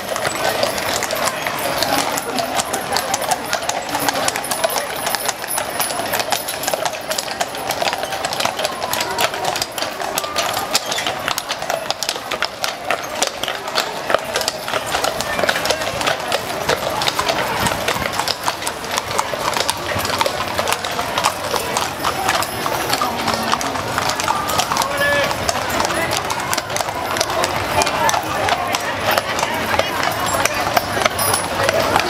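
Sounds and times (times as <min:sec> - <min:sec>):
horse hooves clip-clopping on pavement: 0:00.0 - 0:32.0.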